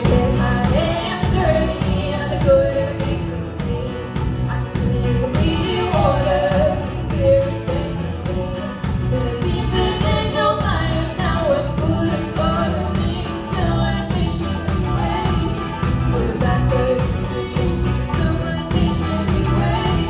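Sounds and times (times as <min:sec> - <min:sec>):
instrumental band music: 0:00.0 - 0:20.0.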